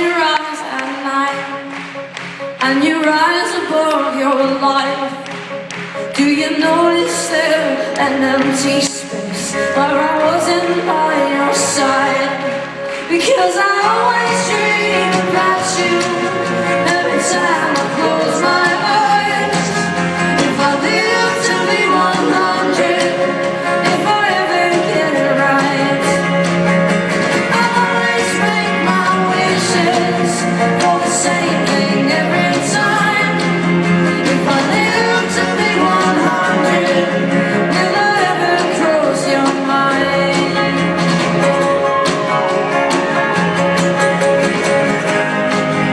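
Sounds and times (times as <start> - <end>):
woman singing: 0.0 - 1.7, 2.6 - 5.4, 6.1 - 26.6, 27.2 - 42.4
live band music: 0.0 - 45.9.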